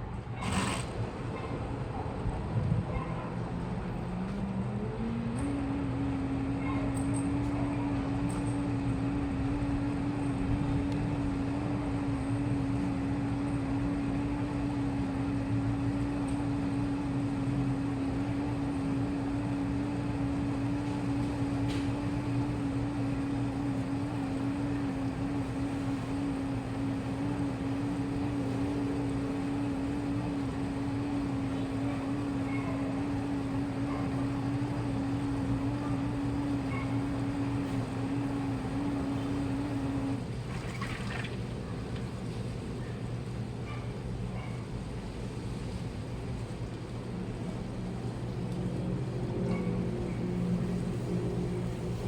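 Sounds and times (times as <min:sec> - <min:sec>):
washing machine spinning: 0:00.0 - 0:52.0.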